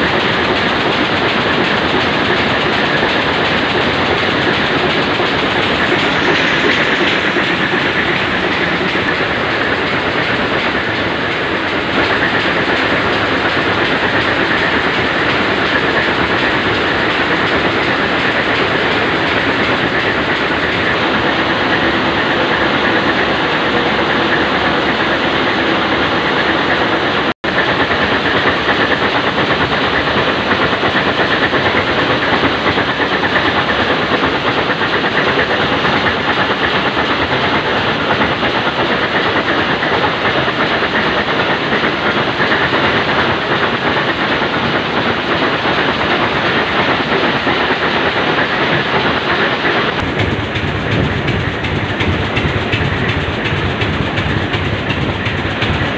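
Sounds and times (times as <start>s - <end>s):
ship diesel engine running: 0.0s - 55.9s.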